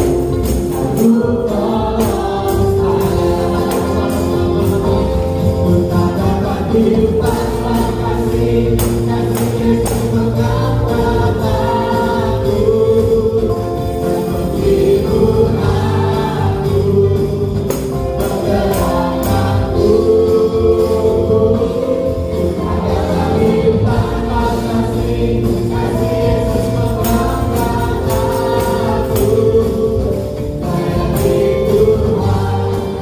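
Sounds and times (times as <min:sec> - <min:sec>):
choir singing: 0:00.0 - 0:33.0
instrumental accompaniment: 0:00.0 - 0:33.0
sharp percussion strikes: 0:00.0 - 0:33.0.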